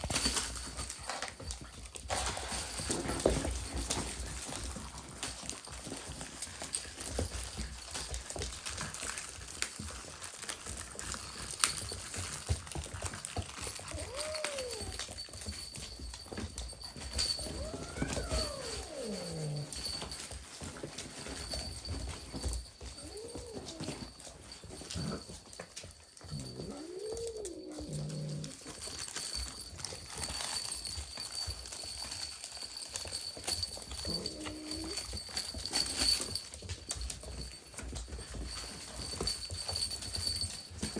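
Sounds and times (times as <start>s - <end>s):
puppies whining: 0.0s - 40.9s.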